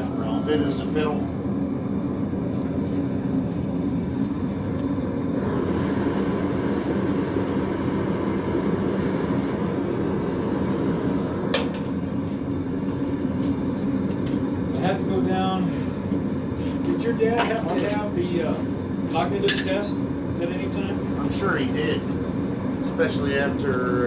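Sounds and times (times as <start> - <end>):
forge air blower roaring: 0.0 - 24.0.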